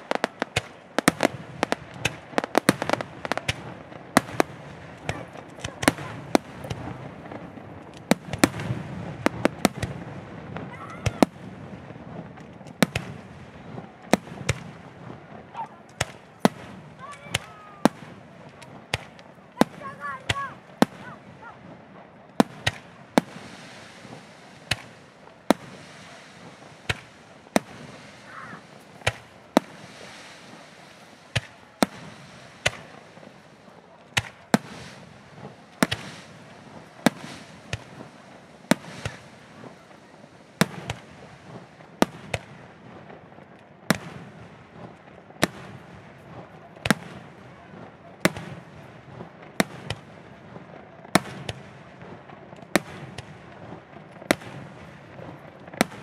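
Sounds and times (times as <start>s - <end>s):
fireworks bursting with bangs: 0.0s - 56.0s
fireworks hiss: 0.0s - 56.0s.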